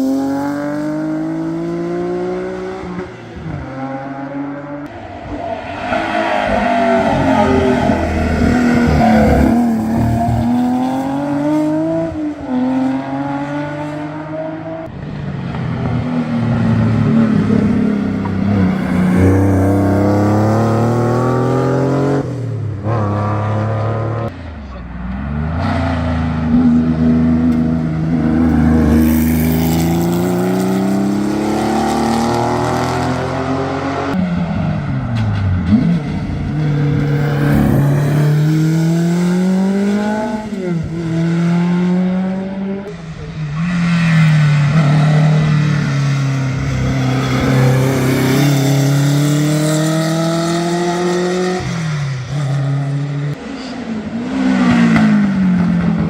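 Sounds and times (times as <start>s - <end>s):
racing car engines revving: 0.0s - 56.0s.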